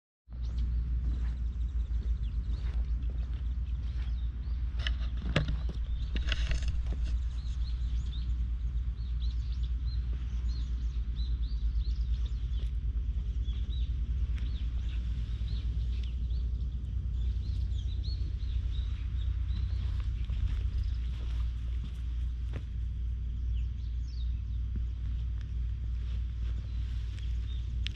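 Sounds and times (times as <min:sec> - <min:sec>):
small birds chirping: 0:00.3 - 0:27.9
wind buffeting microphone: 0:00.3 - 0:27.9.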